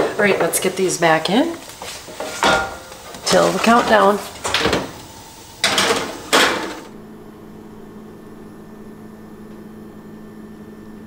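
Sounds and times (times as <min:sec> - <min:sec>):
oven humming: 0:00.0 - 0:11.0.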